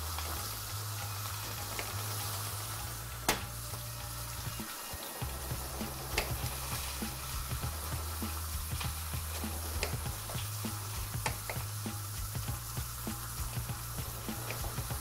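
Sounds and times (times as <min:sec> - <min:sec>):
food sizzling in hot oil: 0:00.0 - 0:15.0
low background music: 0:00.0 - 0:15.0.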